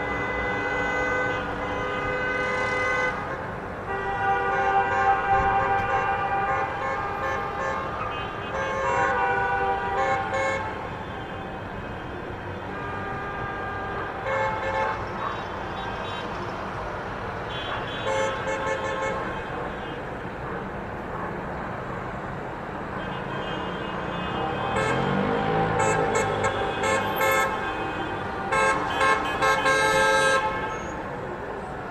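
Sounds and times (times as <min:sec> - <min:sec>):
horns honking: 0:00.0 - 0:16.5, 0:17.4 - 0:20.3, 0:23.0 - 0:31.2.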